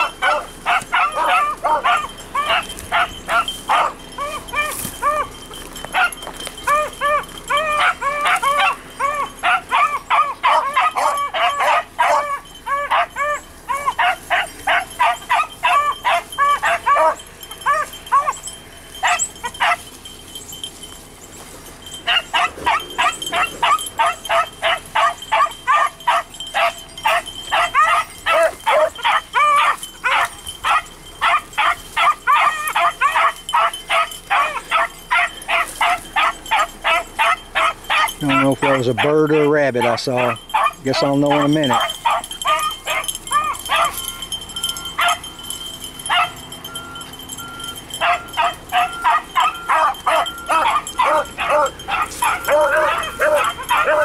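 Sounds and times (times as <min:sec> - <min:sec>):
dogs baying: 0:00.0 - 0:54.0.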